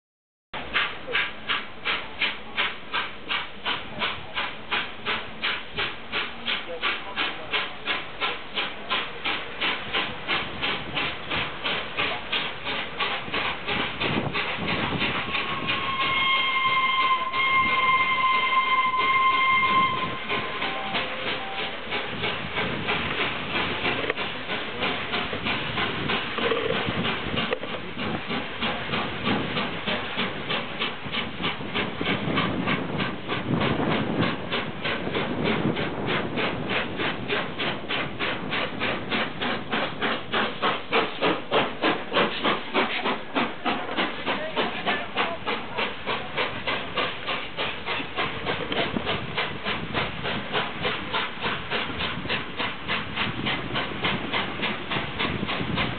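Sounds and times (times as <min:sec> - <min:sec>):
steam hissing: 0:00.6 - 0:55.9
steam locomotive exhaust beat: 0:00.6 - 0:55.9.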